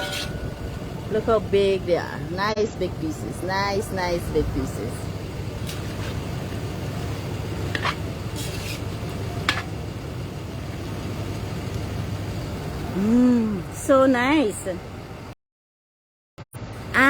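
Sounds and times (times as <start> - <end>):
low mechanical hum: 0.0 - 15.4, 16.6 - 17.0.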